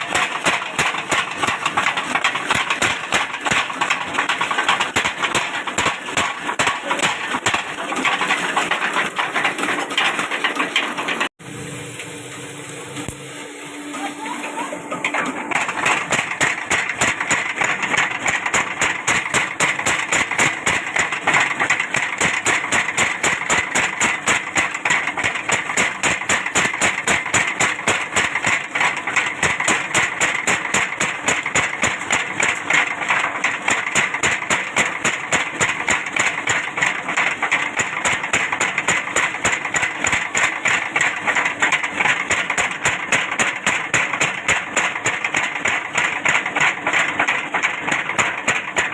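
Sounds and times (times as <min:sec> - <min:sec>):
machine pounding: 0:00.0 - 0:11.4, 0:14.4 - 0:48.9.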